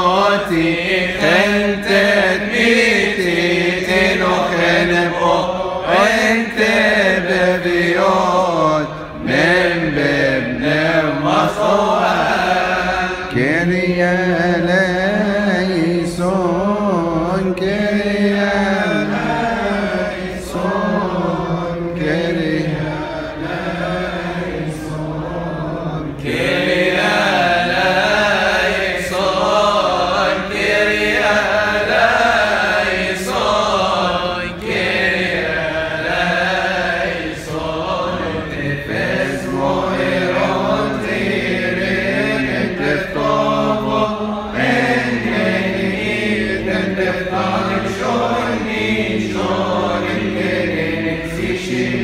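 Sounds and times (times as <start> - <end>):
men chanting a hymn in unison: 0.0 - 52.0.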